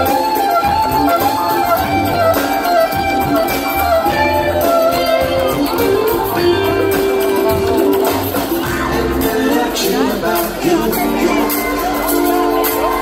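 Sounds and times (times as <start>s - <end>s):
live jam band over sound system: 0.0s - 13.0s.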